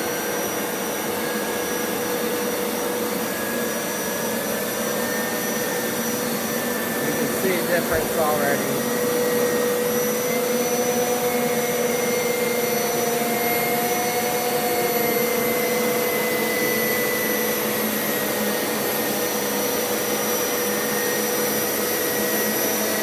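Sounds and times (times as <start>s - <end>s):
carpet washer motor whine: 0.0s - 23.0s.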